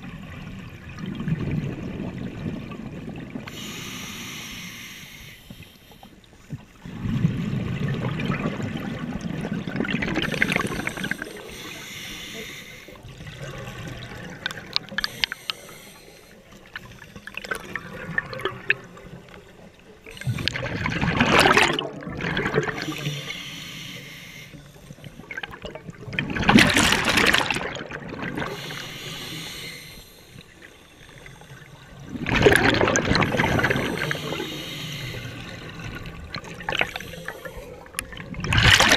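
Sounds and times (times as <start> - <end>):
rushes of exhaled bubbles underwater: 0.0 - 3.8, 6.6 - 15.3, 16.5 - 23.4, 24.9 - 38.9
quiet underwater crackling: 0.0 - 38.9.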